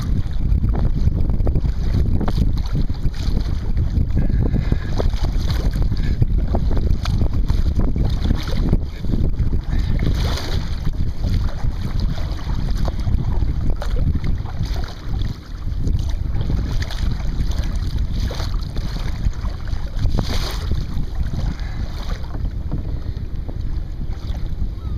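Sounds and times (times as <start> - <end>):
waves splashing against hull: 0.0 - 24.9
wind rumbling on microphone: 0.0 - 24.9.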